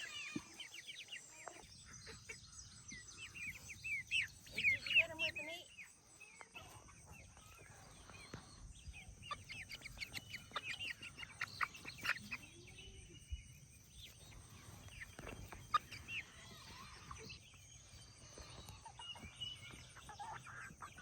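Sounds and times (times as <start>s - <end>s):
chickens chirping and peeping: 0.0s - 21.0s.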